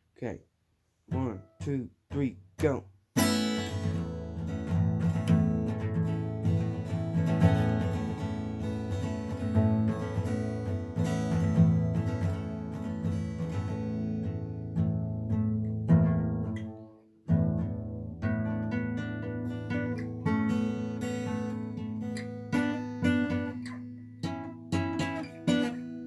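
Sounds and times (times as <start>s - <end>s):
acoustic guitar strumming: 1.1s - 26.0s.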